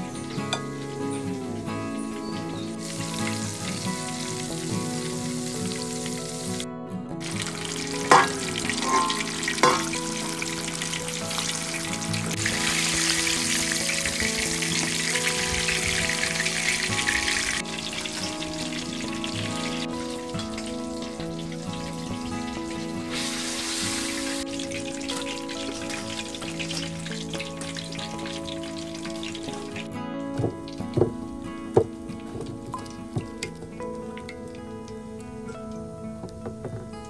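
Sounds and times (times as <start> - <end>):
food sizzling in hot oil: 0.3 - 6.6, 7.2 - 31.4.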